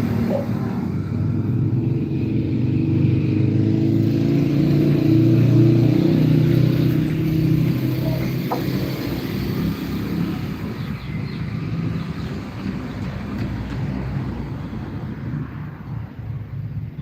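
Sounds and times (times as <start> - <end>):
engine running steadily: 0.0 - 13.9.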